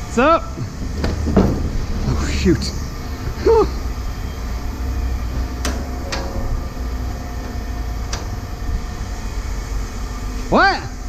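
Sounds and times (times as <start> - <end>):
low rumble: 0.5 - 10.3.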